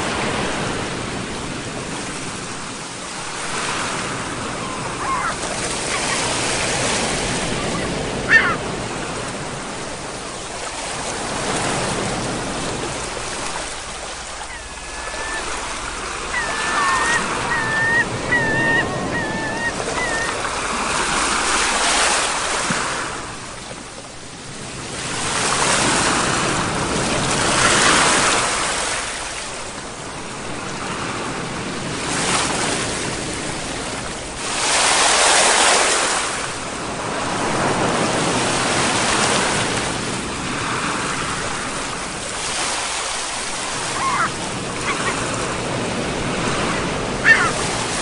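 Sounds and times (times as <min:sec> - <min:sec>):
sea waves breaking on shore: 0:00.0 - 0:48.0.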